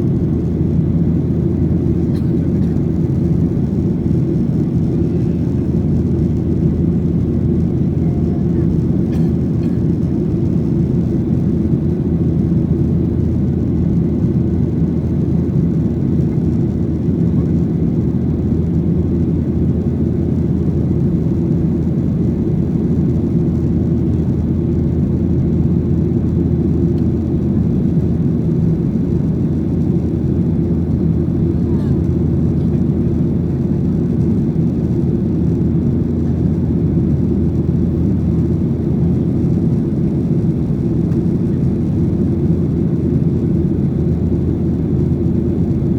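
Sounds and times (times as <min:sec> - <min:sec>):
jet engine rumble in cabin: 0:00.0 - 0:45.9.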